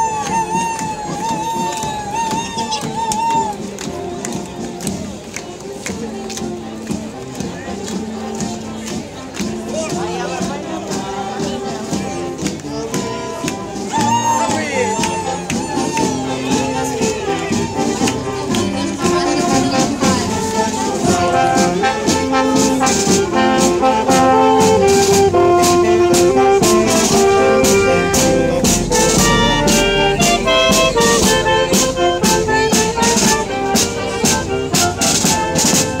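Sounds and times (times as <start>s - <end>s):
bass drum and snare drum beat: 0.0s - 36.0s
marching band playing: 0.0s - 36.0s.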